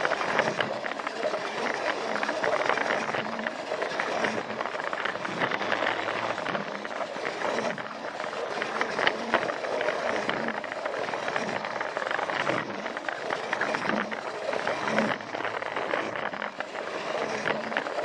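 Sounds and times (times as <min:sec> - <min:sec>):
toy train motor whirring: 0:00.0 - 0:18.0
wheels clicking on plastic track: 0:00.0 - 0:18.0.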